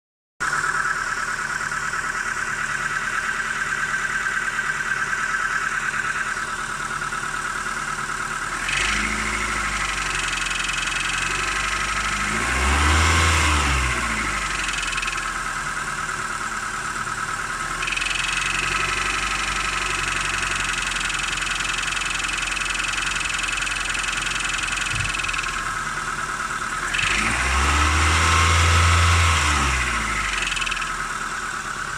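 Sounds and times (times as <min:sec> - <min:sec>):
engine revving: 0:00.4 - 0:31.9
engine running with knock: 0:00.4 - 0:31.9.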